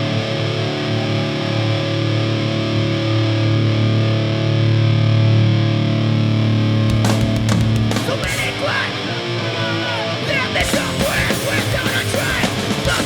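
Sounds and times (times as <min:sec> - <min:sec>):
distorted electric guitars chord: 0:00.0 - 0:13.0.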